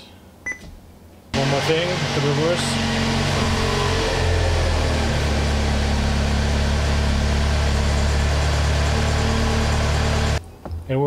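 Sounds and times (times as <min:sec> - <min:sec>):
car engine idling: 0:01.4 - 0:10.4.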